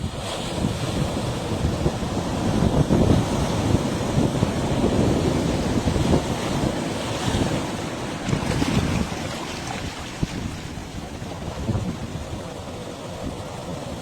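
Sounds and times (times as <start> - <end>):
sea waves washing on beach: 0.0 - 14.0
wind buffeting microphone: 0.0 - 14.0.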